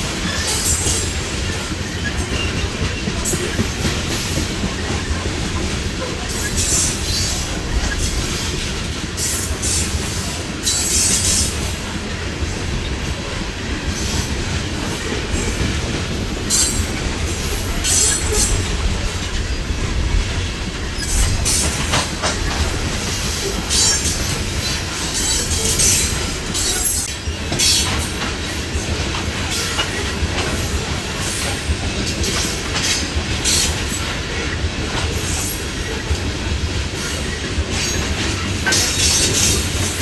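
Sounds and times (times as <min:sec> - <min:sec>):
clickety-clack over rail joints: 0:00.0 - 0:40.0
train wheels rumbling on rails: 0:00.0 - 0:40.0.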